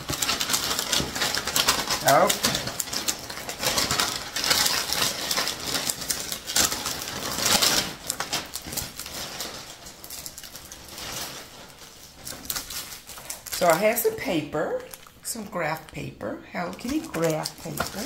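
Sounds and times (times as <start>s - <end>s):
paper and plastic wrapping crinkling: 0.0s - 18.0s.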